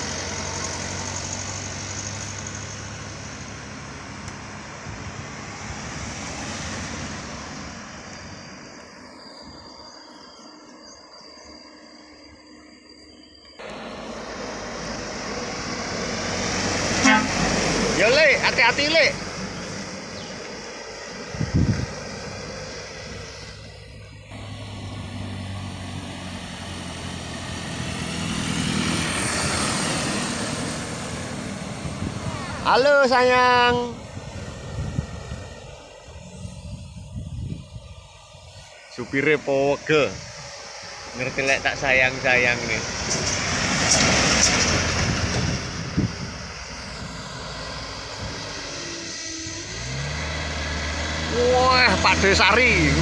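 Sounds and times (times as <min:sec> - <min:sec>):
truck driving past: 0:00.0 - 0:53.0
vehicle engine approaching: 0:00.0 - 0:53.0.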